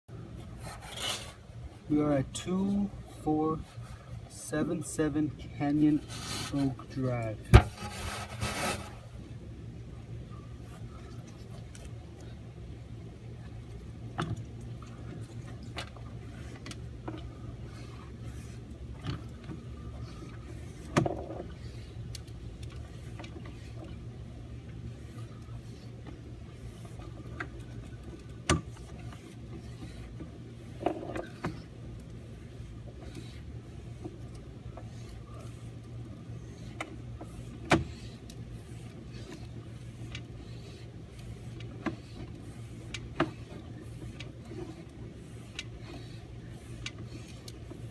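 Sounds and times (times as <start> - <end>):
low motor hum: 0.1 - 47.9.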